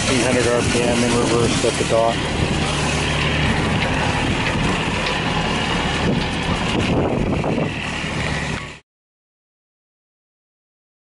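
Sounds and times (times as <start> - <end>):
diesel engine idling: 0.0 - 8.8
exhaust discharging water in gulps: 0.0 - 8.8.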